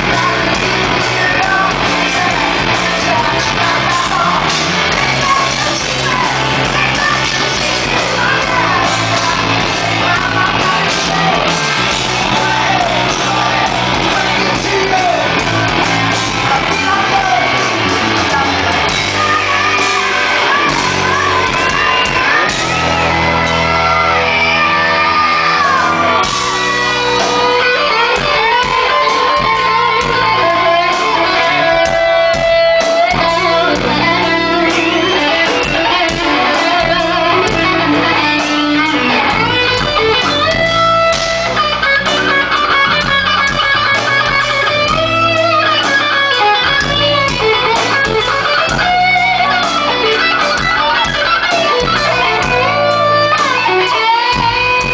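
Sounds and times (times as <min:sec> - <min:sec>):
electric guitar: 0:00.0 - 0:54.9
rock band playing: 0:00.0 - 0:54.9.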